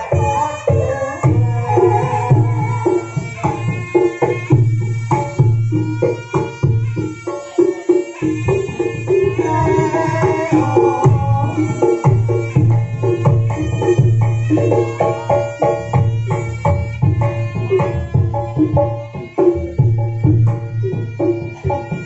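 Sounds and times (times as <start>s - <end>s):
hand drums beating: 0.0s - 22.0s
held pitched melody instruments: 0.0s - 22.0s.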